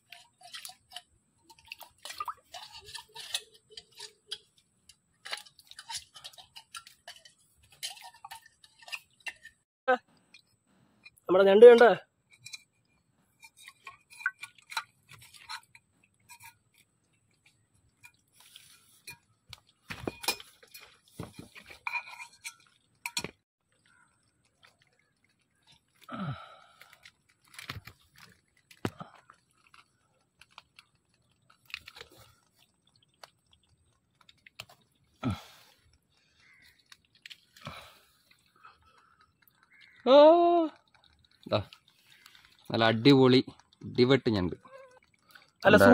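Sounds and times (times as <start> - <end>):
twigs and mud crunching: 0.0 - 45.9.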